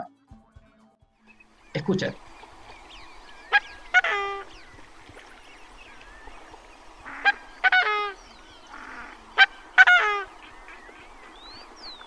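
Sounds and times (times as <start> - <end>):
swan calling: 1.3 - 12.0.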